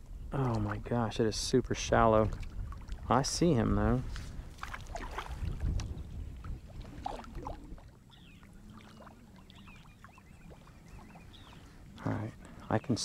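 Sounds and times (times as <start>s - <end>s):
water splashing and dripping: 0.4s - 12.6s.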